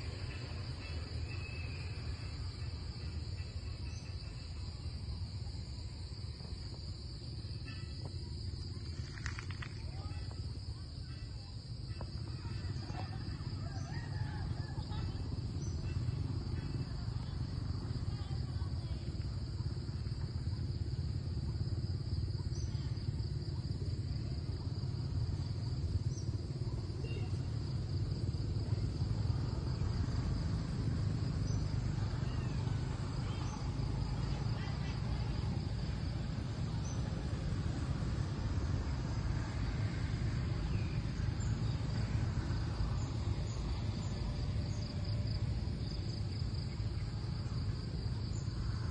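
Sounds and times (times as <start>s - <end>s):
distant voices: 0.0s - 48.9s
insect chorus: 0.0s - 48.9s.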